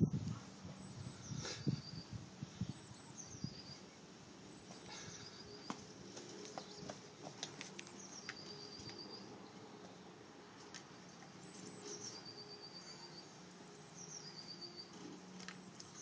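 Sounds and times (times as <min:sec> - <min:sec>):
bird chirps: 0:00.8 - 0:07.0, 0:07.9 - 0:09.6, 0:11.1 - 0:16.0.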